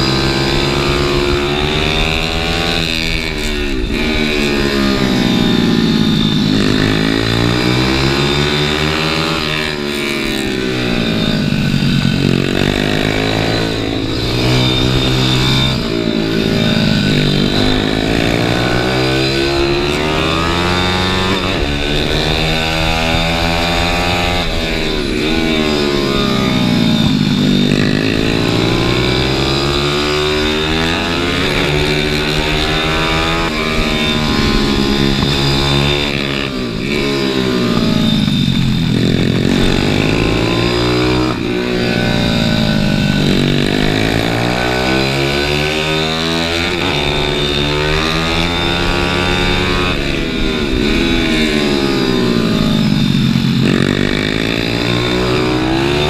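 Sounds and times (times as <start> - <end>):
motorbike engine revving: 0.0 - 56.0
wind rush over microphone: 0.0 - 56.0.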